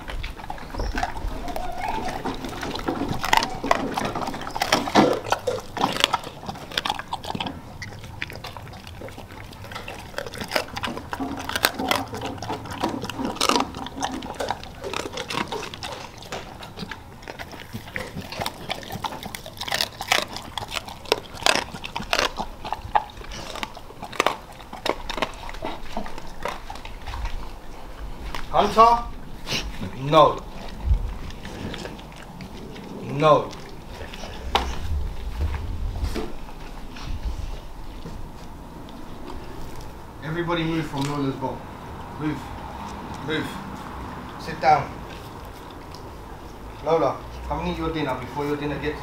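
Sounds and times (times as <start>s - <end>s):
dogs crunching frozen meat: 0.0s - 49.0s.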